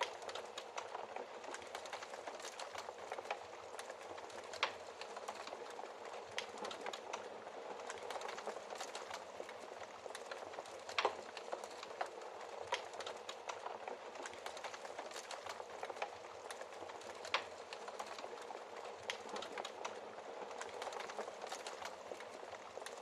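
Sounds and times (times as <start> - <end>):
fire snaps: 0.0 - 23.0
wood fire crackling: 0.0 - 23.0.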